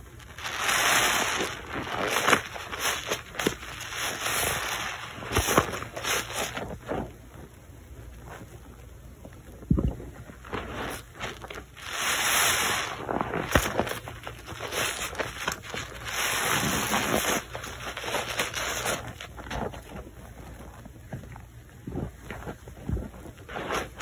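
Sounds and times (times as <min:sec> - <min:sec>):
wet soapy squelching: 0:00.0 - 0:24.0.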